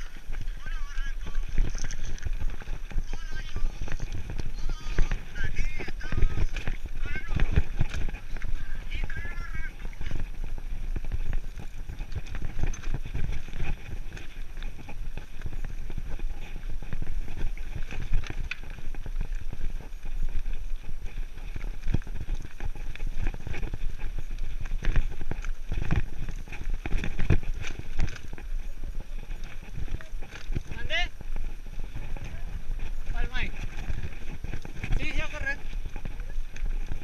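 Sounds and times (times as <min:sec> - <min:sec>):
bike tyres crunching on gravel: 0:00.0 - 0:37.0.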